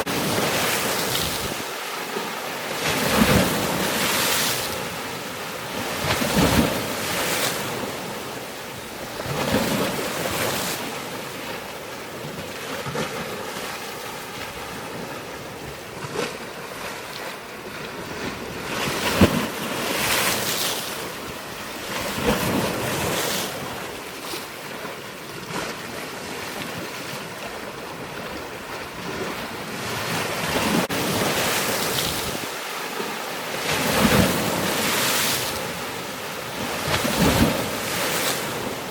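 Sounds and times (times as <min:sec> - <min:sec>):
waves washing in: 0:00.0 - 0:38.9.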